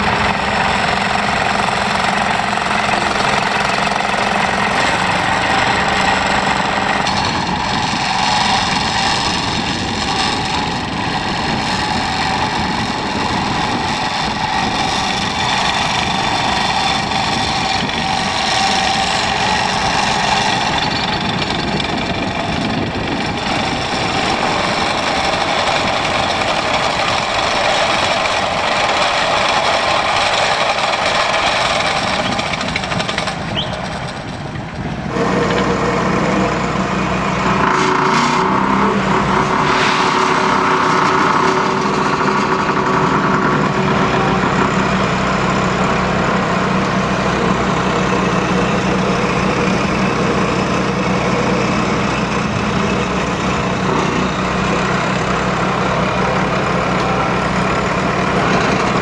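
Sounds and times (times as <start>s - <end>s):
diesel engine rumbling under load: 0.0s - 59.0s
tractor engine hum: 0.0s - 59.0s.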